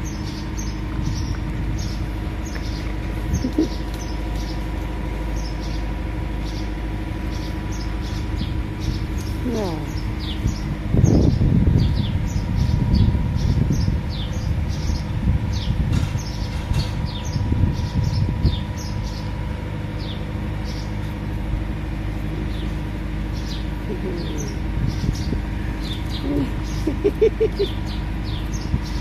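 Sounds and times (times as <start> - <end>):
birds chirping: 0.0 - 29.0
low rumbling noise: 0.0 - 29.0.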